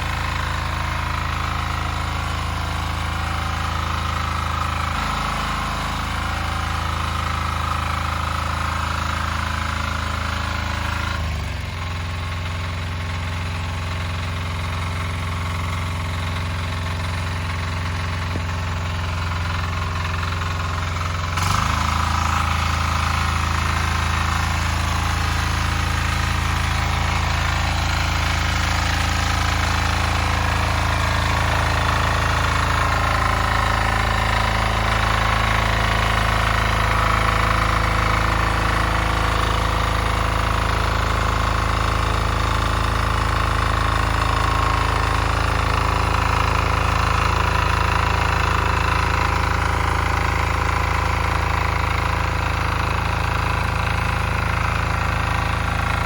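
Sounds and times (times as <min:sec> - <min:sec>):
walk-behind tractor diesel engine: 0:00.0 - 0:56.0.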